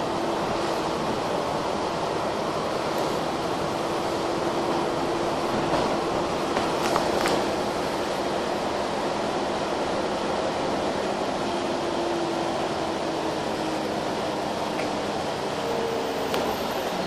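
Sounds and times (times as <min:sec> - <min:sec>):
bus diesel engine: 0:00.0 - 0:17.0
road noise: 0:00.0 - 0:17.0.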